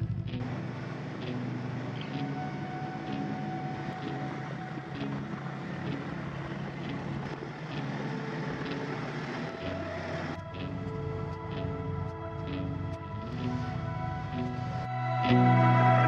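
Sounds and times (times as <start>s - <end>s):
snowmobile engine running: 0.0s - 14.9s.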